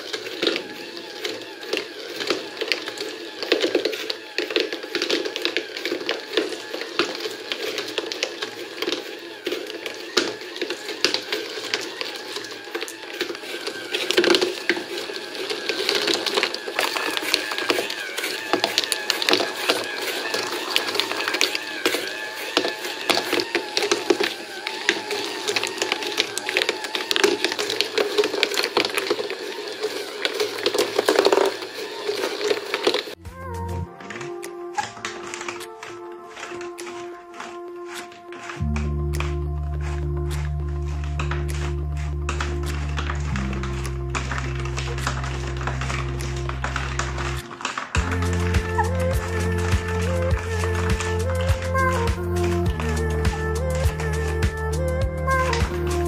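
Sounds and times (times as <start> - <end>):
marbles clicking and rattling: 0.0 - 33.2, 33.9 - 56.0
small gear motor humming: 0.0 - 56.0.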